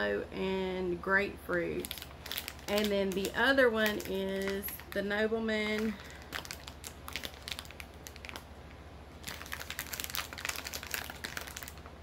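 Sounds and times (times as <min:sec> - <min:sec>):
plastic packaging crinkling: 0:01.7 - 0:08.5, 0:09.2 - 0:12.0.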